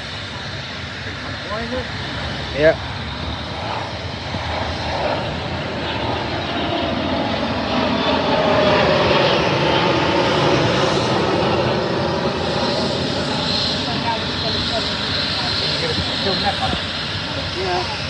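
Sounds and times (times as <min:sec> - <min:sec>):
aircraft engine passing: 0:00.0 - 0:18.0.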